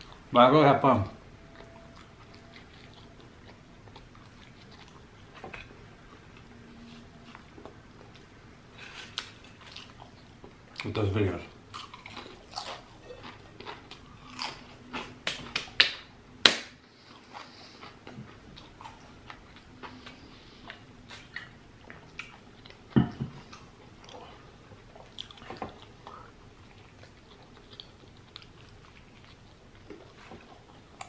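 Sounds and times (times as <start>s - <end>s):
person chewing: 1.4s - 15.8s, 16.9s - 31.0s.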